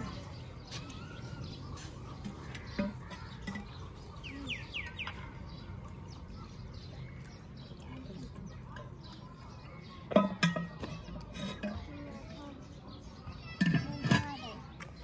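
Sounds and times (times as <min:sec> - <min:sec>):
birds chirping: 0:00.0 - 0:15.0
outdoor village background: 0:00.0 - 0:15.0.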